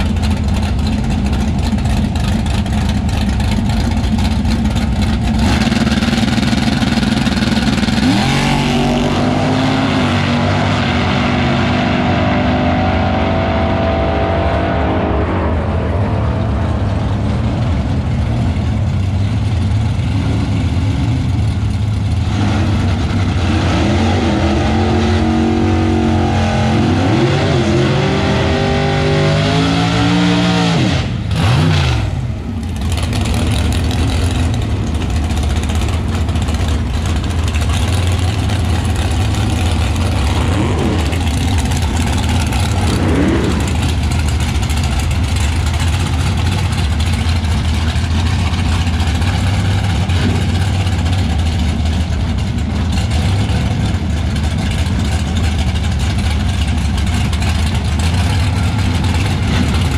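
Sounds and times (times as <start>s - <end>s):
drag car engine revving: 0.0s - 59.9s.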